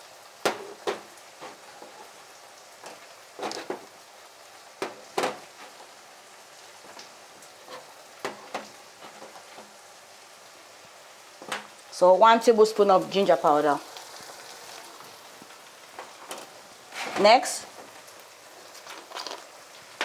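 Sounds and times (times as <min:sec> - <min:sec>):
pan sizzling: 0:00.0 - 0:20.0.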